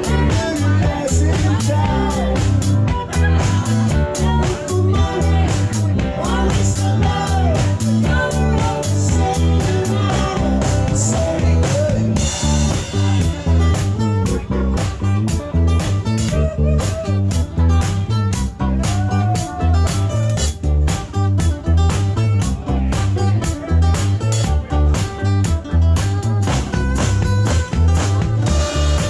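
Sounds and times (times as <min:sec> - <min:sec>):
acoustic guitar: 0:00.0 - 0:29.0
bass guitar: 0:00.0 - 0:29.0
electric guitar lead: 0:00.0 - 0:29.0
steady drum beat: 0:00.0 - 0:29.0.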